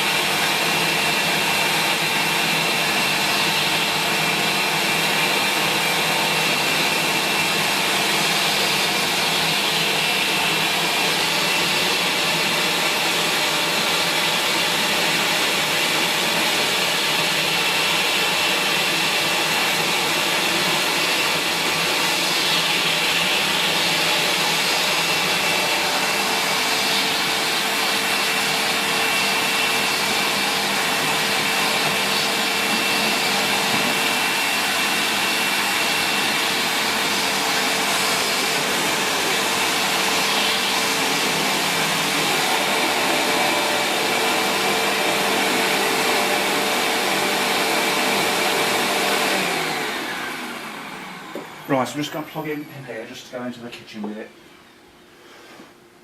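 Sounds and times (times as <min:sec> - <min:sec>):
vacuum cleaner running: 0:00.0 - 0:54.3.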